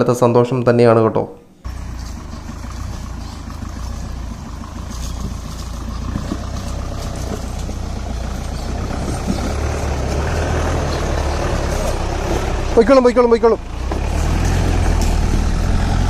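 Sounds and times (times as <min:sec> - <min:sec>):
faint rattles: 0:01.6 - 0:15.9
jeep engine droning: 0:01.6 - 0:16.0.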